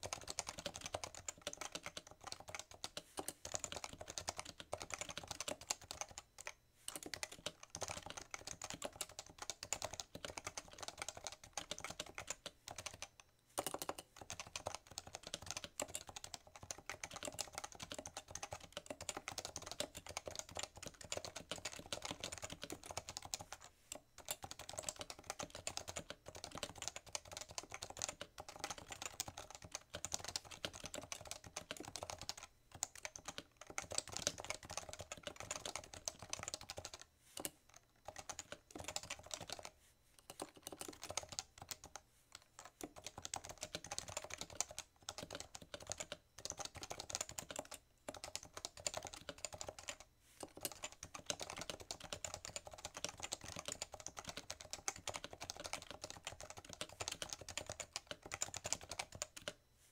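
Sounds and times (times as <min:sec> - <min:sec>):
fast typing on keyboard: 0:00.0 - 0:59.6.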